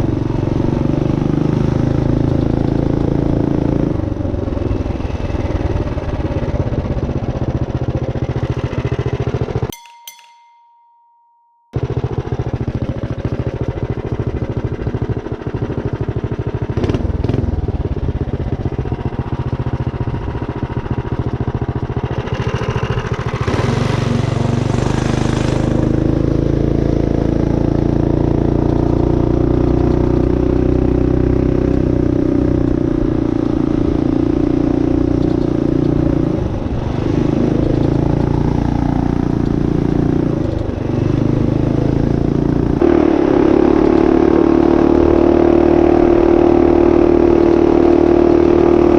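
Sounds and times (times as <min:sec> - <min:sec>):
minibike engine running: 0:00.0 - 0:09.7, 0:11.8 - 0:48.9.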